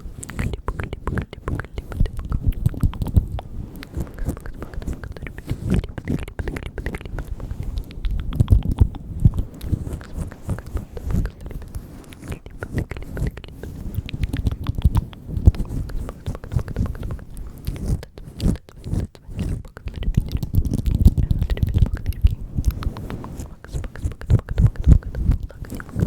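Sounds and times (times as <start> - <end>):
wet lip and tongue clicks: 0.0 - 26.0.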